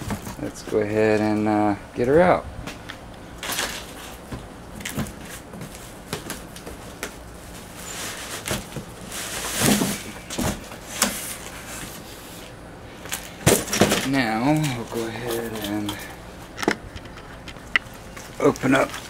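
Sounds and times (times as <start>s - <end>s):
cardboard and plastic rustling: 3.4s - 19.0s.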